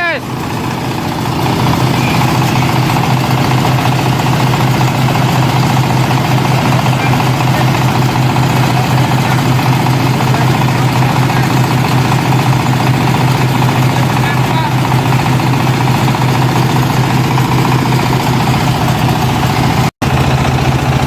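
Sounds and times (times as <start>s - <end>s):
dense mechanical rattle: 0.0s - 21.0s
diesel engine idling: 0.0s - 21.0s.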